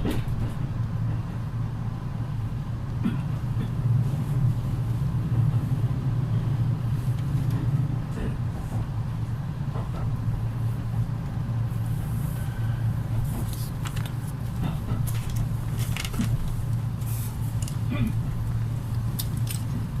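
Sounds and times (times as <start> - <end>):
train interior low hum: 0.0 - 20.0.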